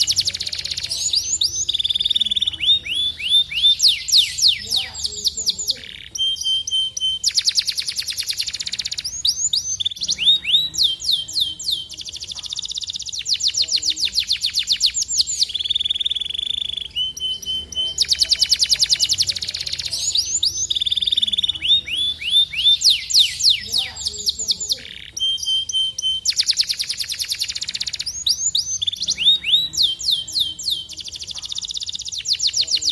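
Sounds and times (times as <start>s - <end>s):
canary singing trills: 0.0s - 32.9s.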